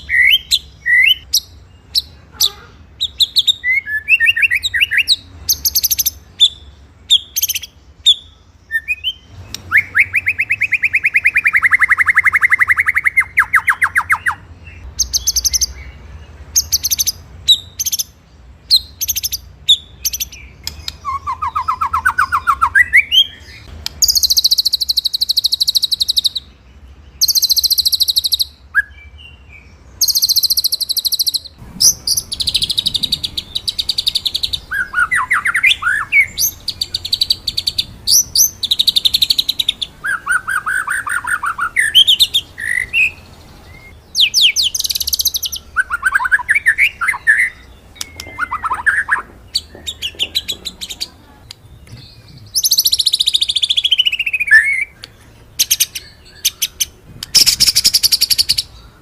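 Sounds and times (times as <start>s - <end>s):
songbird singing whistled notes: 0.0s - 59.0s.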